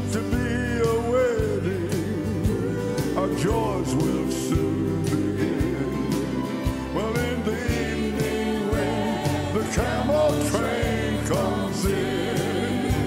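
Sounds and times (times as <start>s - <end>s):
bass: 0.0s - 13.0s
drums: 0.0s - 13.0s
grand piano: 0.0s - 13.0s
voices singing: 0.0s - 13.0s.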